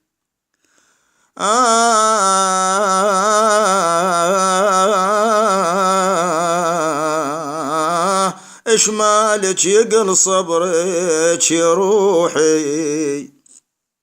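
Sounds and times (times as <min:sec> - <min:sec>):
man singing wordless melisma: 0:01.4 - 0:13.5.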